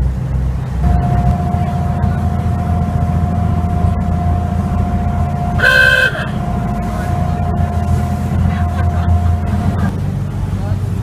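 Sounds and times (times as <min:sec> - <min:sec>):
boat engine rumbling: 0:00.0 - 0:11.0
thin steady whine: 0:00.0 - 0:11.0.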